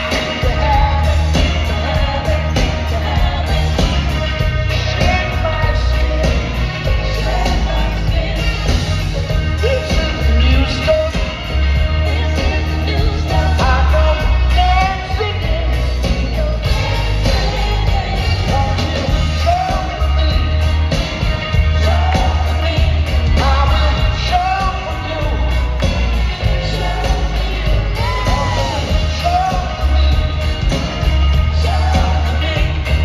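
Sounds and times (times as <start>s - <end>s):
heavy bass line: 0.0s - 33.0s
live rock band playing: 0.0s - 33.0s
male singer: 0.0s - 33.0s.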